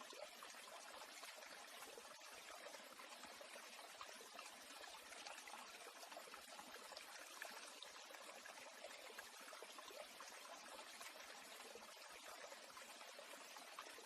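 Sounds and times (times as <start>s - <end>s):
faint trickle of running water: 0.0s - 14.0s
tiny water drips: 0.0s - 14.0s.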